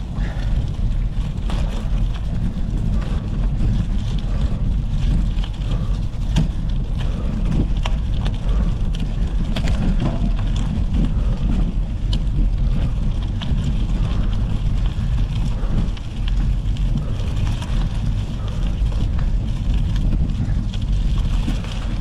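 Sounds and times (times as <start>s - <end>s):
stones clicking under wheels: 0.0s - 22.0s
tyres rolling on gravel: 0.0s - 22.0s
wind rumble on microphone: 0.0s - 22.0s.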